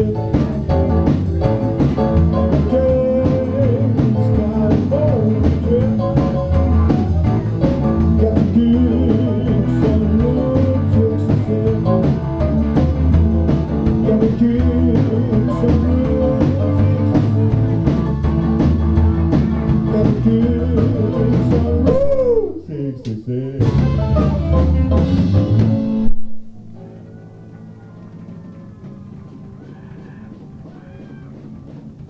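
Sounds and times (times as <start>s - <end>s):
drum kit steady beat: 0.0s - 22.3s, 23.6s - 26.7s, 28.0s - 32.0s
electric guitar lead with bent notes: 0.0s - 22.6s, 23.6s - 32.0s
bass guitar: 0.0s - 32.0s.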